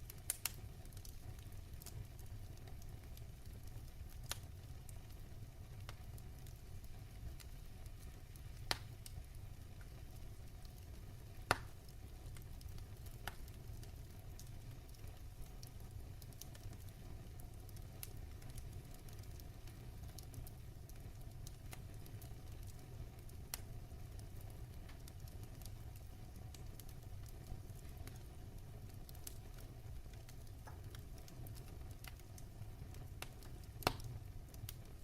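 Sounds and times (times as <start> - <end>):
fireplace fire crackling: 0.0 - 35.0.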